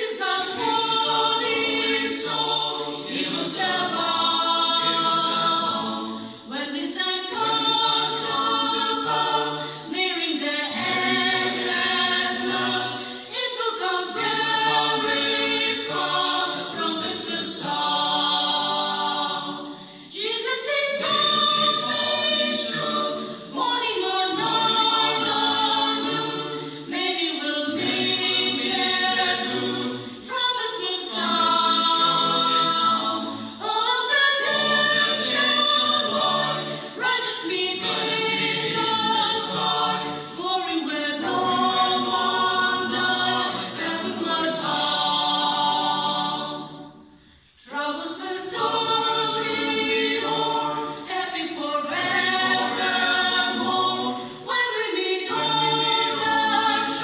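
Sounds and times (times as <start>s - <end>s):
choir singing a hymn unaccompanied: 0.0s - 57.0s.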